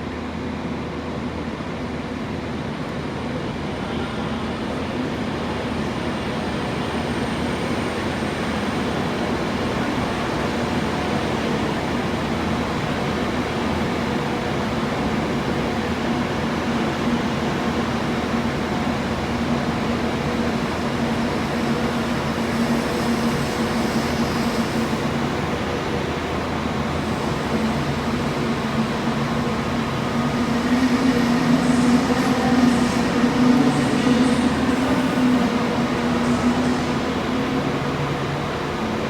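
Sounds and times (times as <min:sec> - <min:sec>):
train humming: 0:00.0 - 0:39.0.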